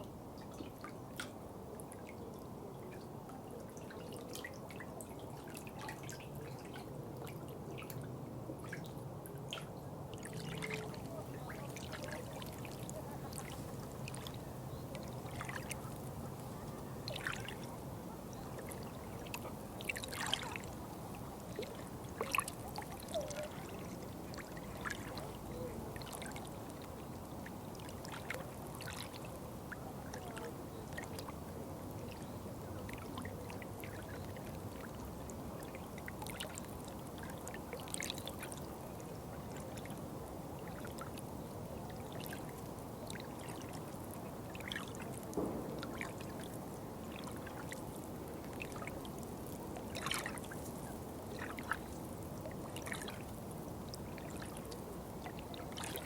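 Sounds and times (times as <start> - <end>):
water trickling: 0.0 - 56.0
splashes and drips: 0.5 - 17.7, 18.3 - 40.0, 41.9 - 56.0.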